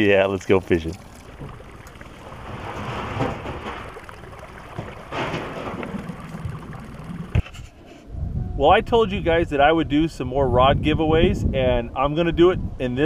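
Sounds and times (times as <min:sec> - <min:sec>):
wind rushing over microphone: 0:00.8 - 0:13.0.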